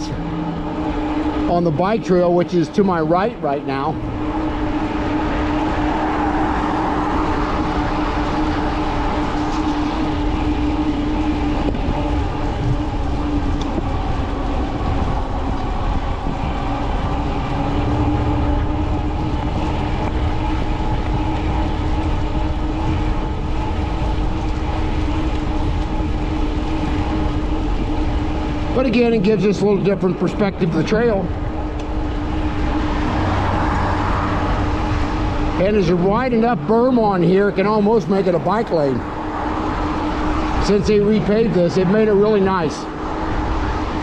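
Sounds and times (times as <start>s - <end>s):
electric bike motor and tyre hum: 0.0s - 44.0s
low rumble: 0.0s - 44.0s.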